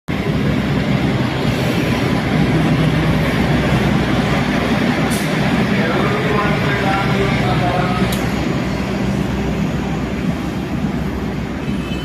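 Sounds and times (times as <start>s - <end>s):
diesel locomotive passing: 0.1s - 12.0s.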